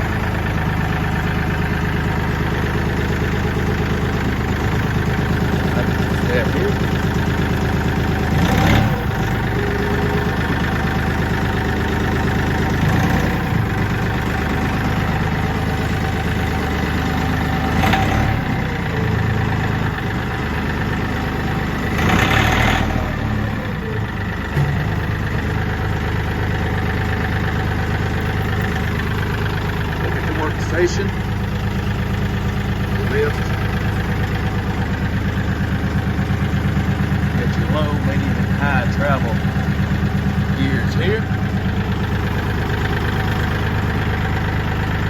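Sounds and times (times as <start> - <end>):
tractor diesel engine idling: 0.0 - 45.0.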